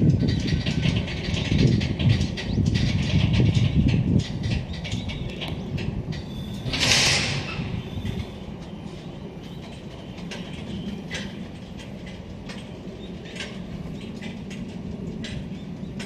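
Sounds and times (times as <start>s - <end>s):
freight train rumbling: 0.0s - 16.0s
wheel clicks over rail joints: 0.0s - 16.0s.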